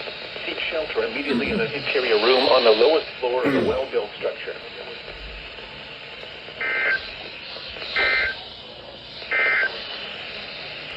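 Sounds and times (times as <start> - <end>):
radio hiss: 0.0 - 10.9.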